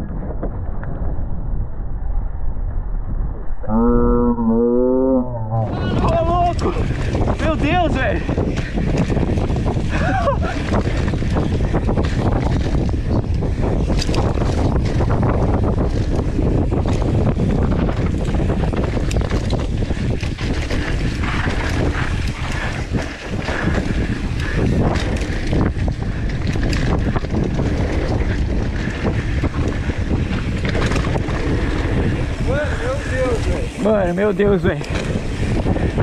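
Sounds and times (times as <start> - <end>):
wind buffeting microphone: 0.0 - 36.0
bike knocking and rattling: 5.8 - 36.0.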